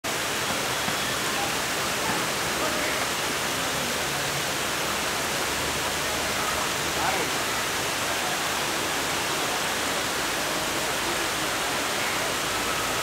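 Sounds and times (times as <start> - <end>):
faint voices: 0.1 - 13.0.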